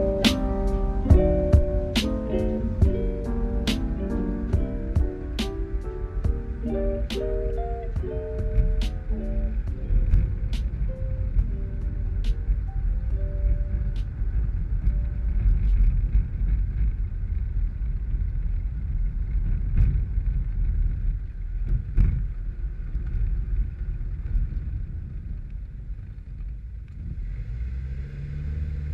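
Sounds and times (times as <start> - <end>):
longboard wheels rumbling on asphalt: 0.0 - 28.9
wind buffeting microphone: 0.0 - 28.9.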